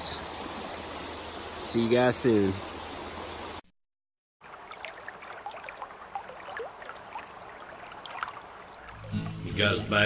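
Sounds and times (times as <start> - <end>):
water running in stony creek: 0.0 - 3.6, 4.4 - 10.0.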